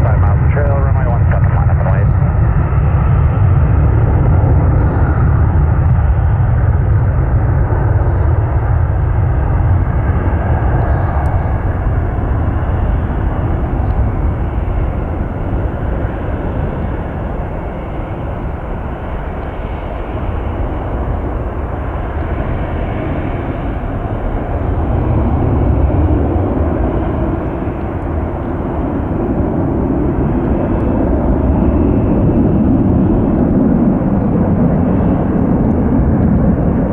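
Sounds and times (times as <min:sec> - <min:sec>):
jet engines rumbling on takeoff: 0:00.0 - 0:36.9.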